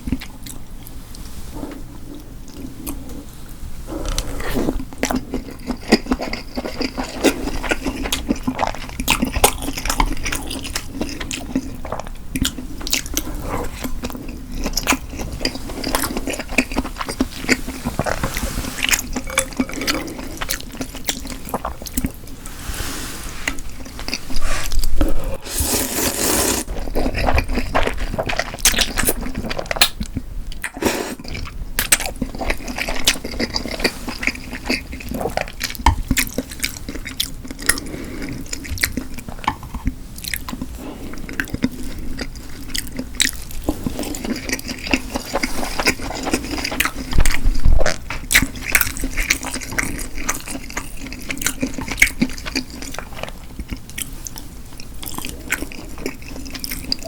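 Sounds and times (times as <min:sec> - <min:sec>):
person chewing and biting: 0:03.9 - 0:22.4, 0:23.5 - 0:57.0.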